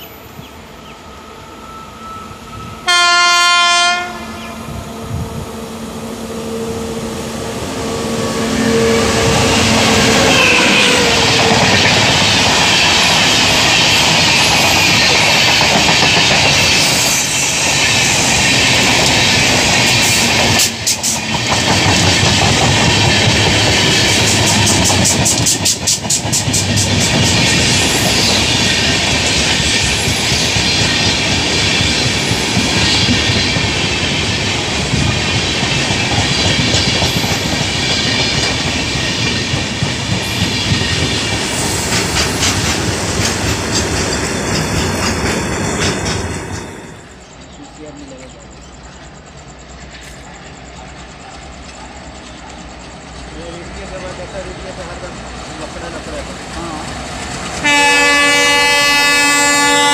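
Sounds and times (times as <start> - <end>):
train rushing past: 0.0 - 59.9.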